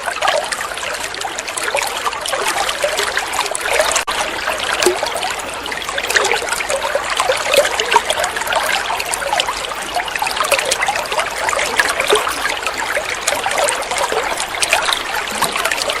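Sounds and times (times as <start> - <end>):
running water gurgling: 0.0 - 16.0.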